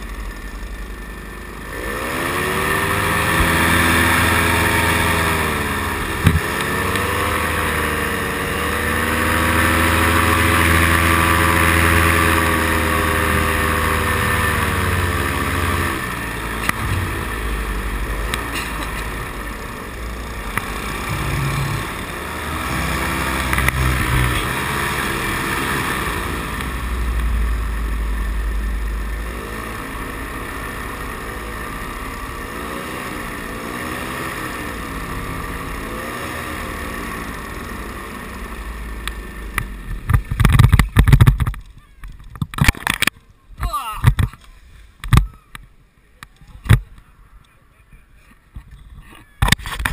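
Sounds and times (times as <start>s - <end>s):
paramotor engine and propeller: 0.0s - 43.4s, 44.0s - 49.9s.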